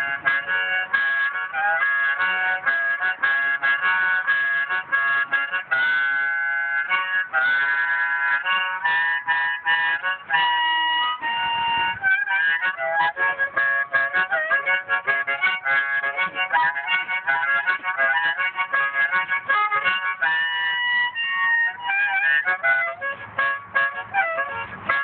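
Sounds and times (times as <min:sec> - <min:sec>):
harmonica playing chords: 0:00.0 - 0:25.0.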